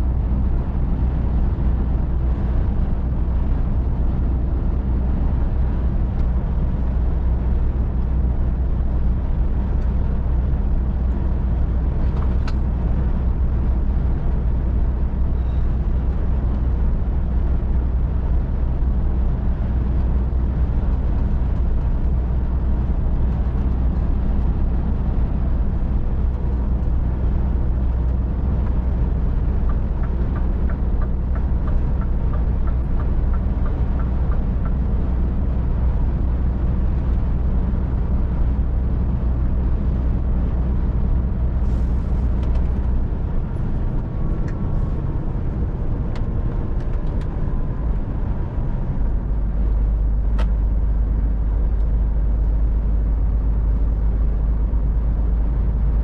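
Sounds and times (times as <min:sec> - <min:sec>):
truck diesel engine droning: 0:00.0 - 0:56.0
tyre and road noise: 0:00.0 - 0:56.0.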